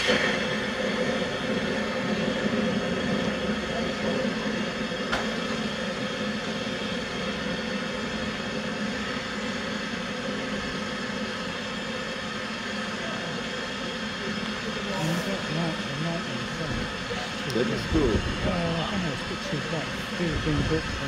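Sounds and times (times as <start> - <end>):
steam train running: 0.0 - 21.0.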